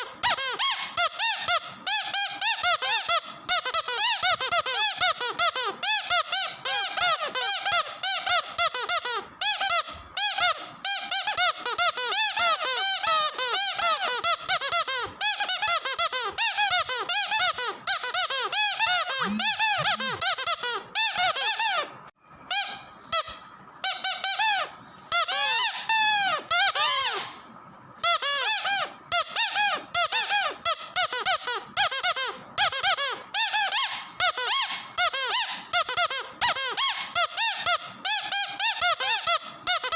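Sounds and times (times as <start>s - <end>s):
squeaky dog toy squeaking: 0.0s - 39.9s.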